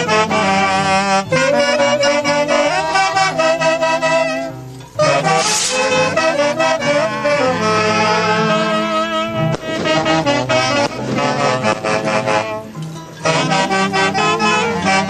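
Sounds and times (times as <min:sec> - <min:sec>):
wind band playing dance music: 0:00.0 - 0:15.0.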